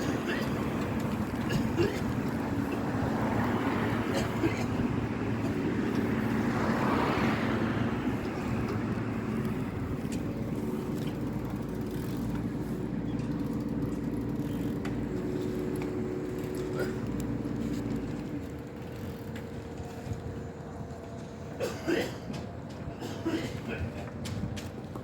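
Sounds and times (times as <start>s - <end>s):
vehicle passing: 0.0s - 21.5s.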